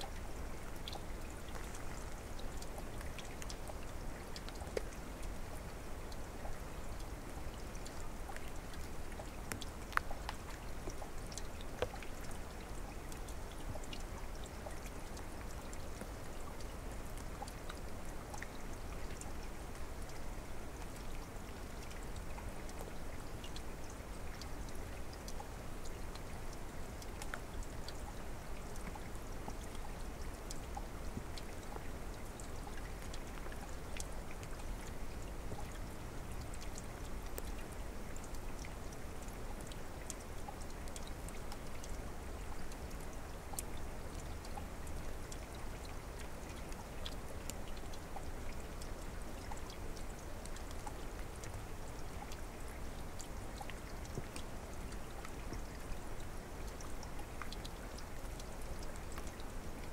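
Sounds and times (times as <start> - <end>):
water splashes and drips: 0.0 - 59.9.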